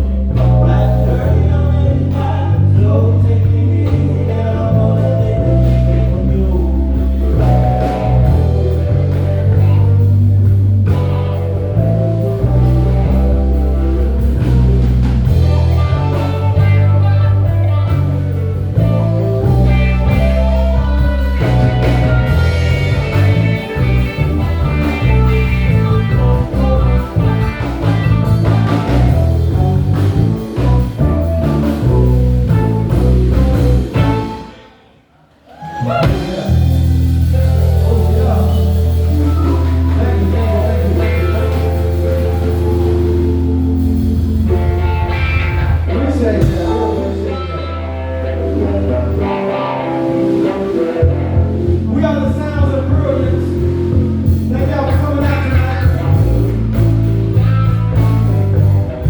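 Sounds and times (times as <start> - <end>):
heavy bass line: 0.0 - 34.6, 35.8 - 59.0
live blues band: 0.0 - 34.7, 35.4 - 59.0
lead guitar: 0.0 - 34.8, 35.7 - 59.0.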